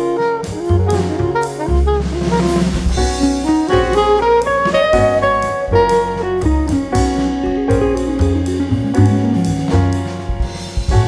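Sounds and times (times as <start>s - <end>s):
instrumental jazz music: 0.0s - 11.0s.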